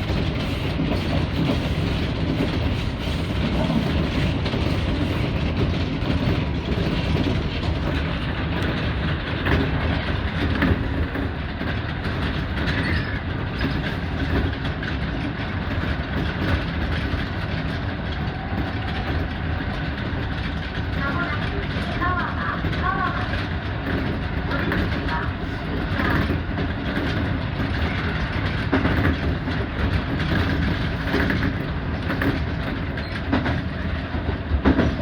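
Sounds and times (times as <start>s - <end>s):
train rumble: 0.0s - 35.0s
wheels clacking over rail joints: 0.0s - 35.0s.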